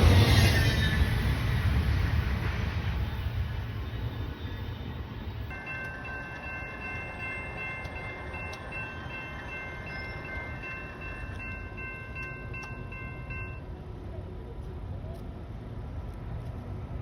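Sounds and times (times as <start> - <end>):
low rumble of passing train: 0.0 - 17.0.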